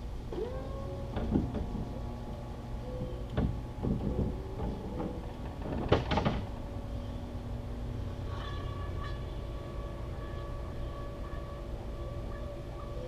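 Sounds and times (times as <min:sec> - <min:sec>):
hydraulic pump motor running: 0:00.0 - 0:13.0.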